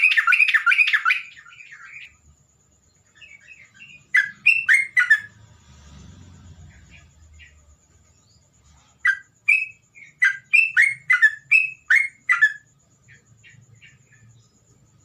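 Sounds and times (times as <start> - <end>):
songbird sharp chirps: 0.0 - 15.0.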